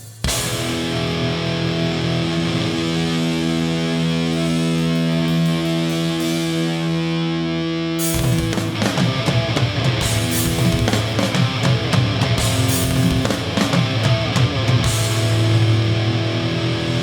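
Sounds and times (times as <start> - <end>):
punk band playing: 0.0 - 6.9, 8.0 - 17.0
drums: 0.0 - 17.0
distorted electric guitar chord: 0.4 - 17.0.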